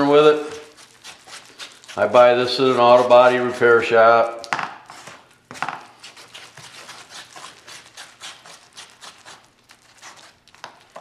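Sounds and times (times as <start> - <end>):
body filler mixing scrapes: 0.0 - 11.0.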